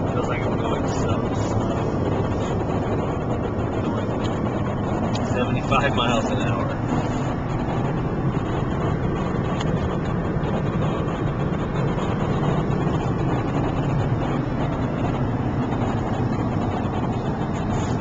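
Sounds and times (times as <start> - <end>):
tyres and engine rumble: 0.0 - 18.0.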